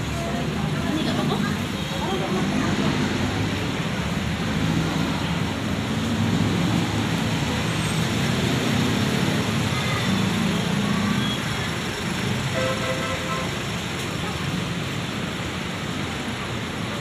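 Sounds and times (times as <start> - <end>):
faint voices of passers-by: 0.0 - 17.0
road traffic rumble: 0.0 - 17.0.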